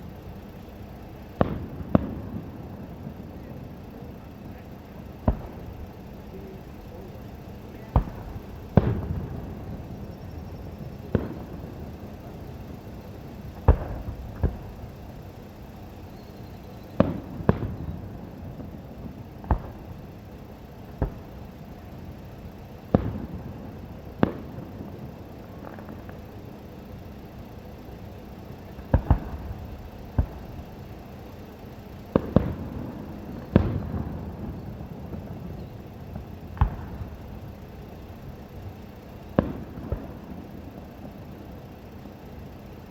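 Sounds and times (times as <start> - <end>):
fireworks booming: 0.0 - 42.9.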